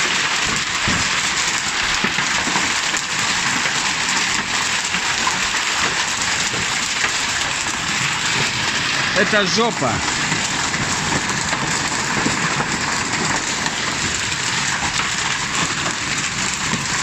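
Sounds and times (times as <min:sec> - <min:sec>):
heavy rain and hail: 0:00.0 - 0:17.0.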